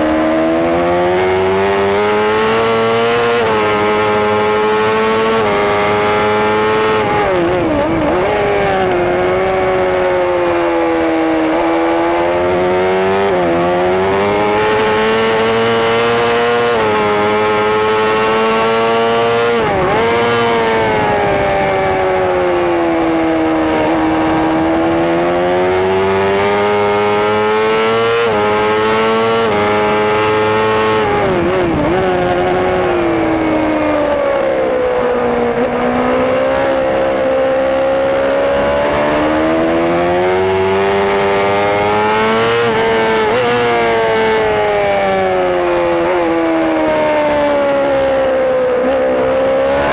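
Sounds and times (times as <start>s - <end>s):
racing motorcycle engine at high revs: 0.0s - 49.9s.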